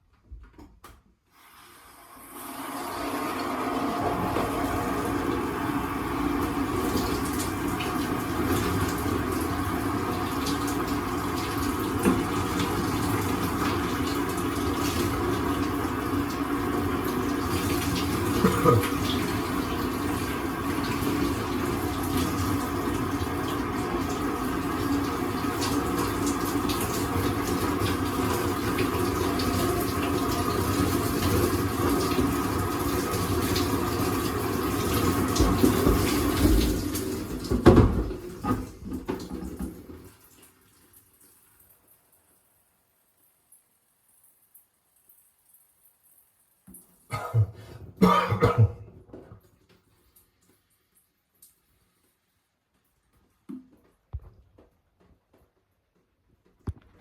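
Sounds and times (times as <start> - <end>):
shower water running: 1.3 - 47.1, 49.4 - 54.3.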